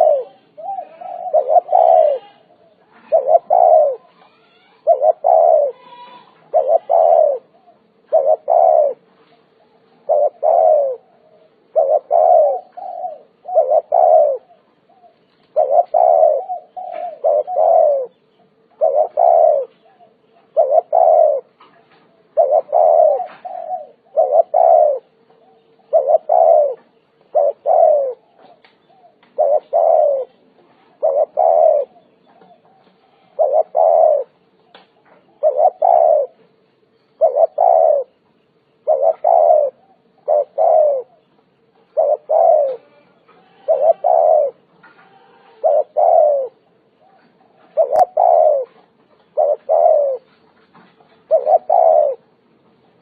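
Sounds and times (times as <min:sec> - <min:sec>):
dove cooing: 0:00.0 - 0:53.0
faint steady hum: 0:00.0 - 0:53.0.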